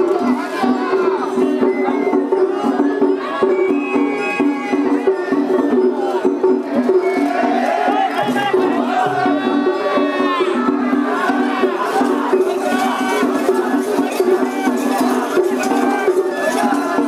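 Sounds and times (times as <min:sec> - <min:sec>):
crowd voices: 0:00.0 - 0:17.0.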